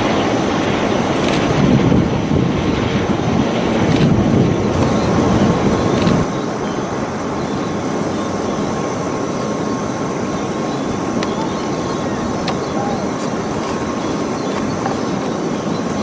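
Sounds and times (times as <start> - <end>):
aircraft flying over: 0.0 - 16.0.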